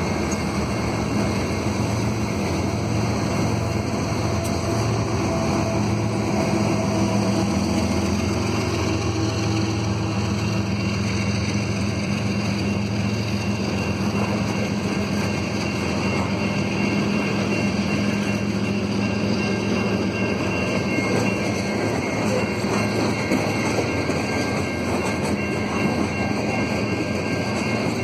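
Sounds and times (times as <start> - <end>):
diesel locomotive engines droning: 0.0 - 28.0
train rumbling on rails: 0.0 - 28.0.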